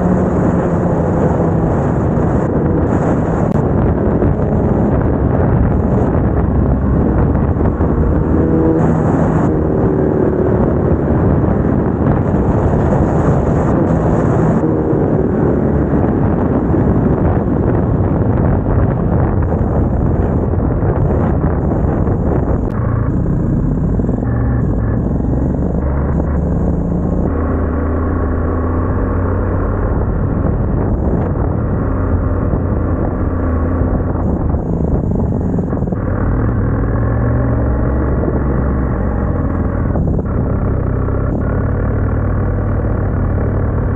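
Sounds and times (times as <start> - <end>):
motorcycle engine and exhaust: 0.0 - 43.9
wind rushing over microphone: 0.0 - 43.9.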